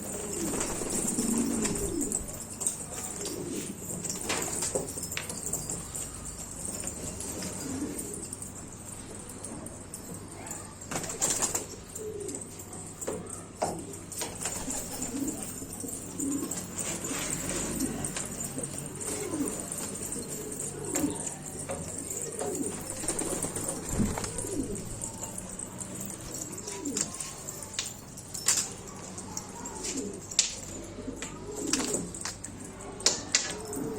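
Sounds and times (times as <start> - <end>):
pigeons cooing: 0.0 - 27.6, 29.0 - 33.9.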